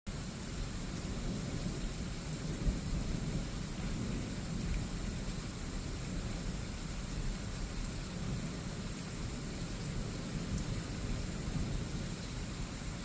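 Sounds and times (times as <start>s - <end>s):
rain hiss: 0.1s - 13.0s.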